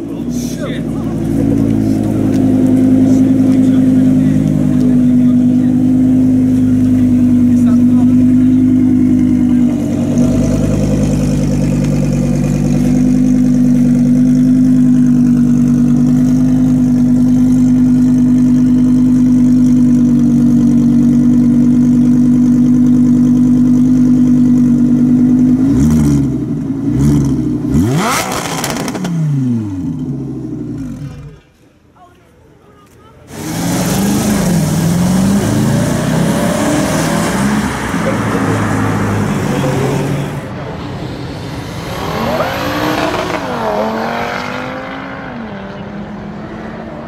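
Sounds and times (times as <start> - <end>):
car engine revving: 0.0 - 31.6, 33.3 - 47.0.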